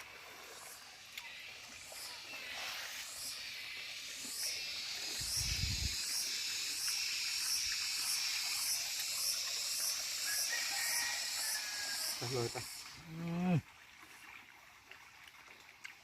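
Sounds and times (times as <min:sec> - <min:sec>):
insects chirping: 0:00.0 - 0:13.6.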